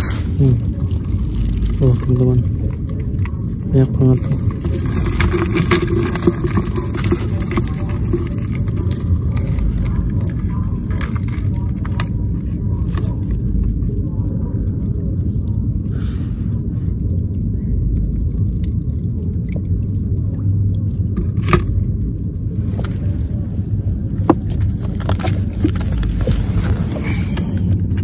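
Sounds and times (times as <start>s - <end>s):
crabs clicking in plastic bucket: 0.0s - 15.5s, 17.5s - 23.1s, 24.1s - 28.0s
low rumble: 0.0s - 28.0s.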